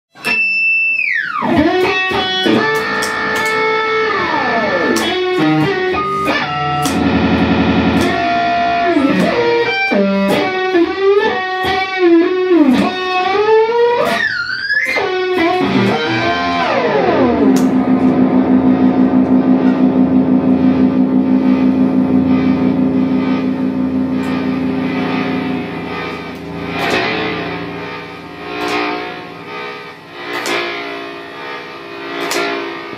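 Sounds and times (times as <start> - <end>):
solo electric guitar: 0.2 - 32.9.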